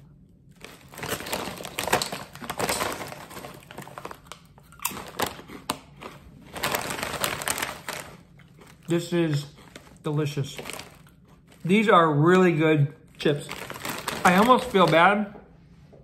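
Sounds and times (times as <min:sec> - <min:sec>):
chip bag crinkling: 0:00.5 - 0:12.0, 0:13.1 - 0:15.2
potato chip crunching: 0:00.5 - 0:12.0, 0:13.2 - 0:15.1.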